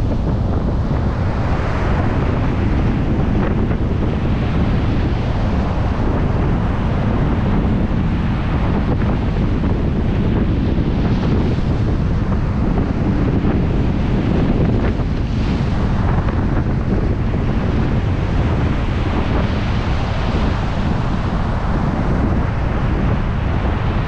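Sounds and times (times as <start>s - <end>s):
surf pounding a beach: 0.0s - 24.0s
wind buffeting microphone: 0.0s - 24.0s.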